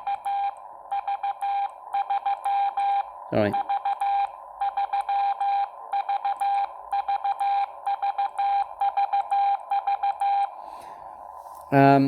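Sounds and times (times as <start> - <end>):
morse code beeps: 0.0 - 10.6.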